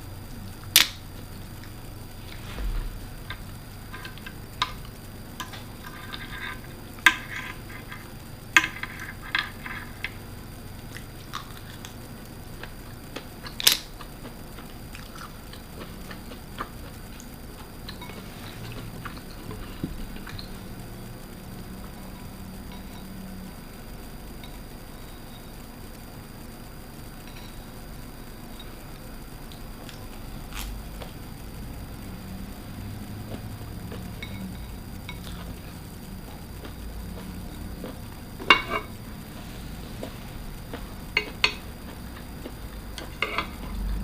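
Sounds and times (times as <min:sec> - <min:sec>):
soft wet chewing: 0:00.4 - 0:23.4, 0:28.5 - 0:44.0.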